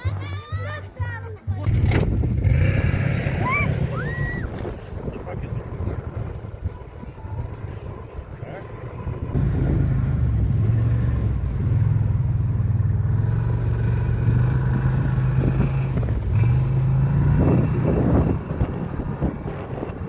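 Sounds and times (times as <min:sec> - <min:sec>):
small vehicle engine under load: 0:01.6 - 0:20.0.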